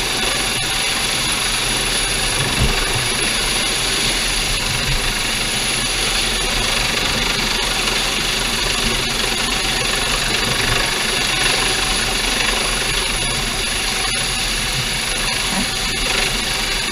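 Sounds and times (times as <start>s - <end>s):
helicopter rotor roar: 0.0s - 16.9s.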